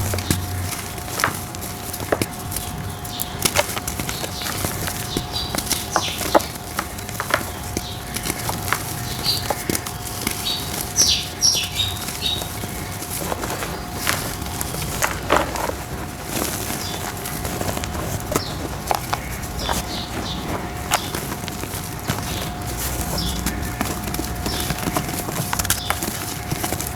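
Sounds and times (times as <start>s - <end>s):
dry dirt crumbling: 0.0s - 26.9s.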